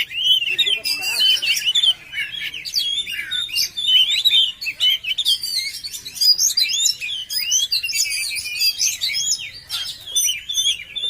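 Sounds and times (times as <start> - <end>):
bird singing varied whistles: 0.0 - 11.0.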